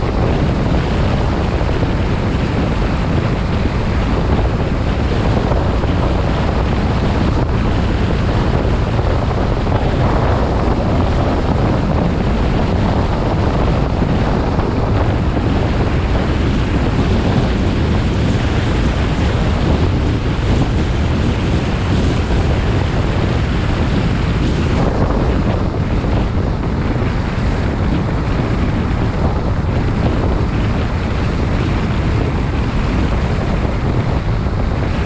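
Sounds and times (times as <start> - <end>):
tyre and road noise: 0.0 - 35.0
wind buffeting microphone: 0.0 - 35.0.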